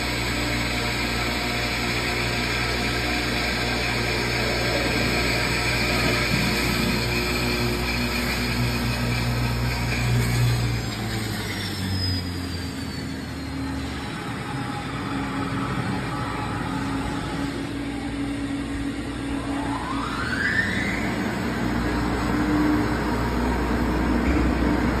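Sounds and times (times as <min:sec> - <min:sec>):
blender mechanical drone: 0:00.0 - 0:25.0
rising whine: 0:00.0 - 0:25.0.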